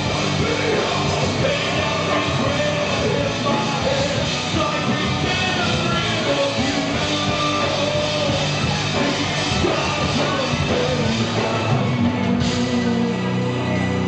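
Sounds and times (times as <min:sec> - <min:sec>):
drums: 0:00.0 - 0:14.0
electric guitars: 0:00.0 - 0:14.0
person singing: 0:00.1 - 0:14.0.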